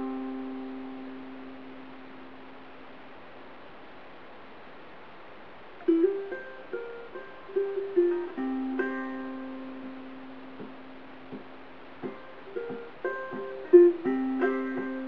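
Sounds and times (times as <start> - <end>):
ukulele picked melody: 0.0 - 2.9, 5.8 - 15.0.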